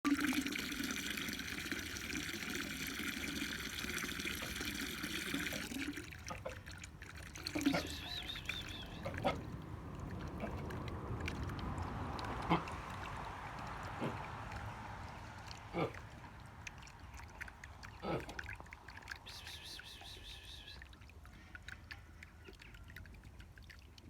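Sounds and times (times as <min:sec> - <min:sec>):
water running: 0:00.0 - 0:20.9.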